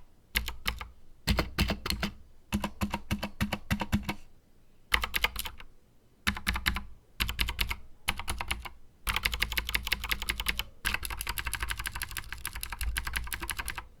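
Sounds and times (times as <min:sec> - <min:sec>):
mechanical keyboard typing: 0:00.4 - 0:04.2, 0:04.9 - 0:05.7, 0:06.3 - 0:13.9.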